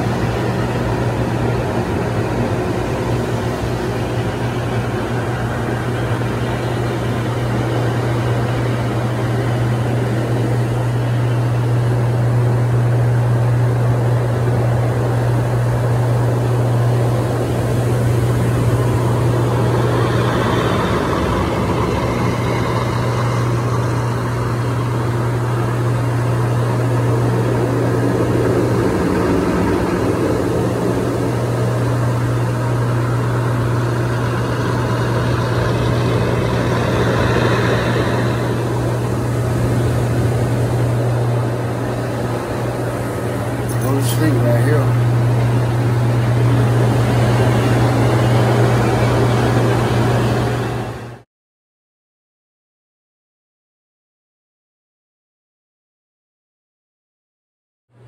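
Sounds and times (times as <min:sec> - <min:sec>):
pump low hum: 0:00.0 - 0:51.2.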